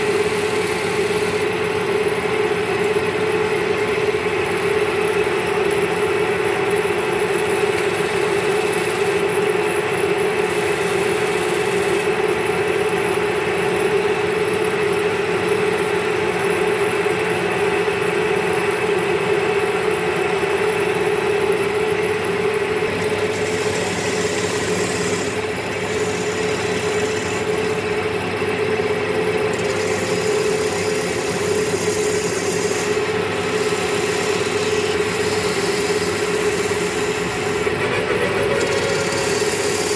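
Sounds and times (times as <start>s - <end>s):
chisel cutting spinning wood: 0.0s - 16.6s, 19.1s - 39.9s
wood lathe motor hum: 0.0s - 16.9s, 18.0s - 39.9s.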